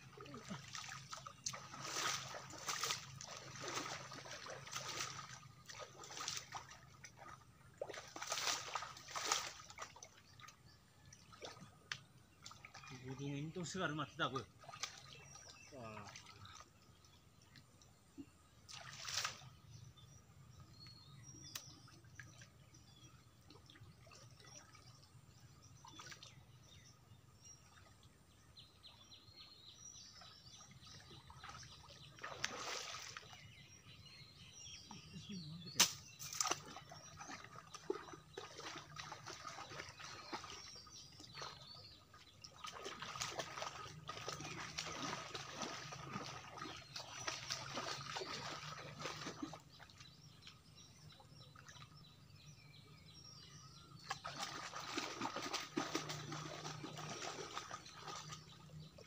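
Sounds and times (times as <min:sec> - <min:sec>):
water sloshing and splashing: 0:00.0 - 0:52.6, 0:53.3 - 0:59.0.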